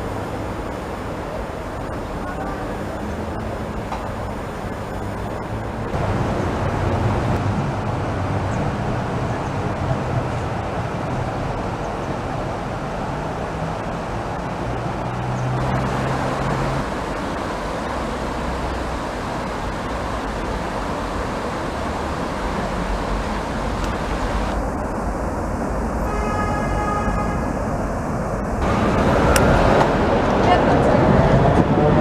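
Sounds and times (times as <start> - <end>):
trams and traffic passing: 0.0 - 32.0.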